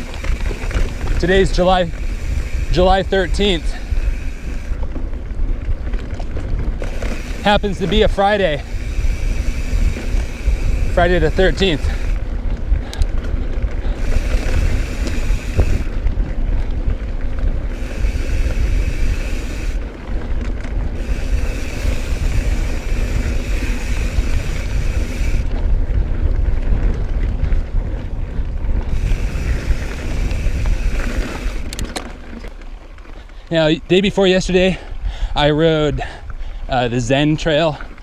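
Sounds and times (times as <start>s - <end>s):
bike tyre rumble: 0.0s - 38.0s
wind buffeting microphone: 0.0s - 38.0s.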